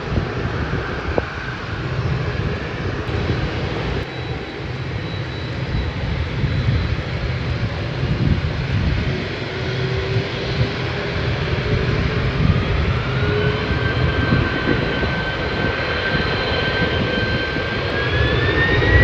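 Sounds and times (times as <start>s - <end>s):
jet engines rumbling: 0.0s - 19.0s
faint high whine: 3.0s - 19.0s.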